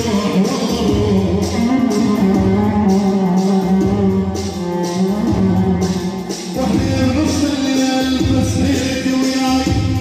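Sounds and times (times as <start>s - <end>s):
keyboard plucked-string melody: 0.0s - 10.0s
programmed drum beat: 0.0s - 10.0s.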